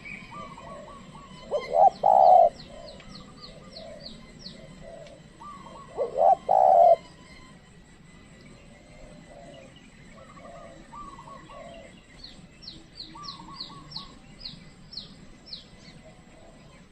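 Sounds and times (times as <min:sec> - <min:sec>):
dove cooing: 0:00.0 - 0:07.6, 0:08.2 - 0:12.1, 0:12.7 - 0:14.3, 0:15.5 - 0:16.9.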